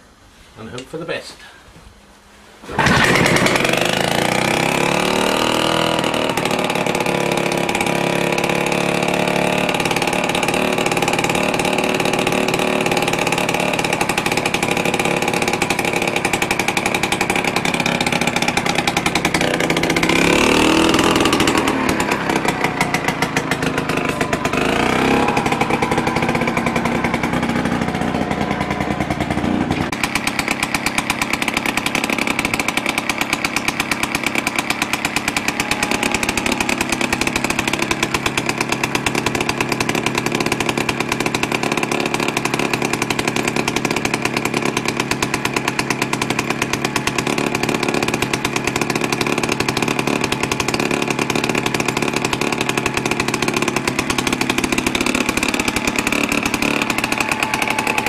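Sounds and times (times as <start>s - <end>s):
pull-start cord: 2.7s - 58.0s
rototiller engine running: 2.7s - 58.0s.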